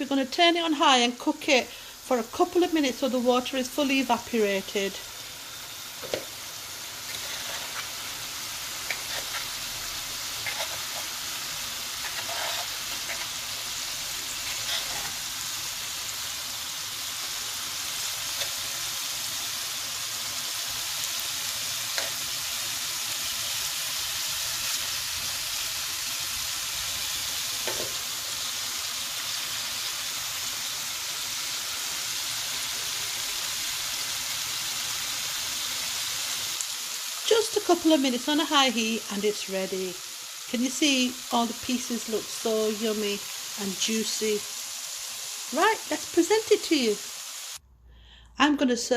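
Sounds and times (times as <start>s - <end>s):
chicken sizzling in a pan: 0.0s - 47.6s.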